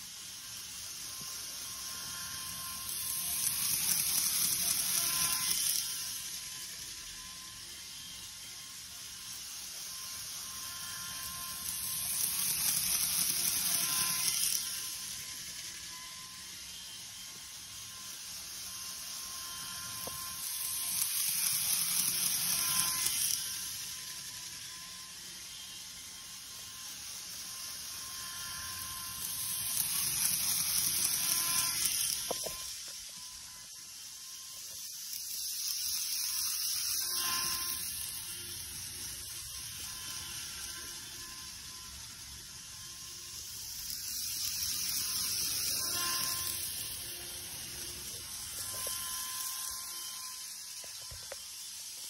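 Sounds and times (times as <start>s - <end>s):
model train motor whine: 0.0s - 52.0s.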